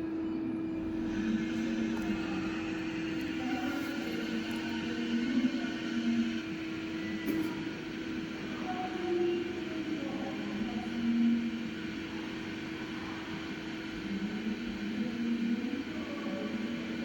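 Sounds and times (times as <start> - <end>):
lathe machine hum: 0.6 - 17.0.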